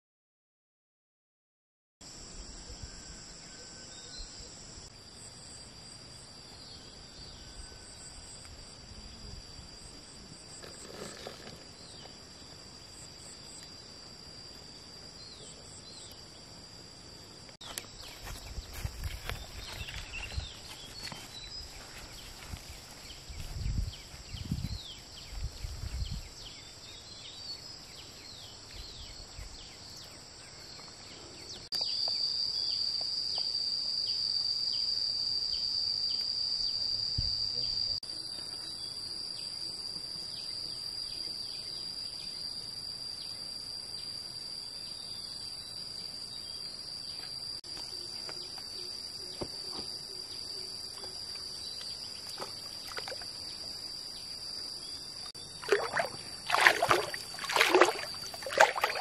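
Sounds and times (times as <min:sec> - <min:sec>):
chorus of insects droning: 0:02.0 - 0:59.0.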